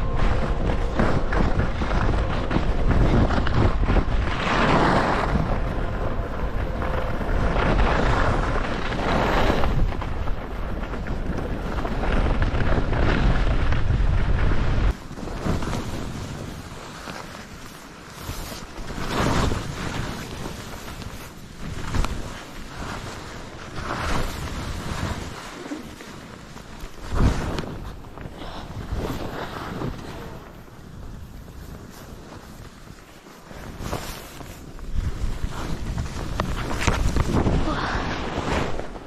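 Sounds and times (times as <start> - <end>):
skis scraping over snow: 0.0 - 39.0
wind rushing over microphone: 0.0 - 39.0.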